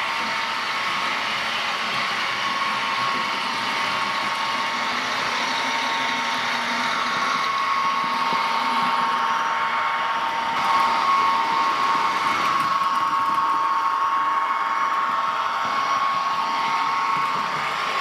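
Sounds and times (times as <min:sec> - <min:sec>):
model train whirring drone: 0:00.0 - 0:18.0.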